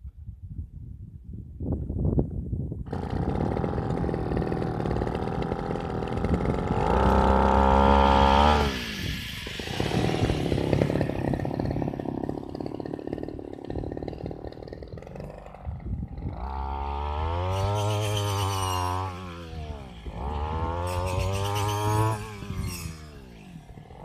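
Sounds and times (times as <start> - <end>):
brush-cutter engine revving: 2.9 - 24.0.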